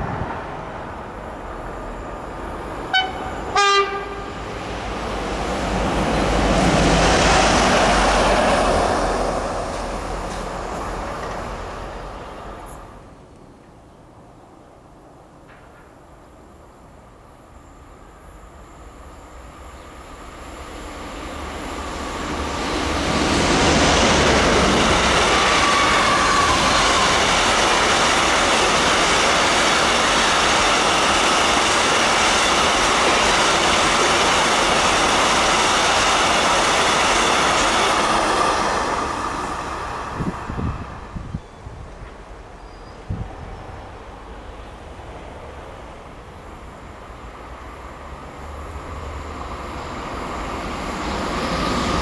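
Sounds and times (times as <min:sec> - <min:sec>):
wheels rumbling on rail: 0:00.0 - 0:16.2, 0:17.8 - 0:52.0
diesel locomotive: 0:00.0 - 0:52.0.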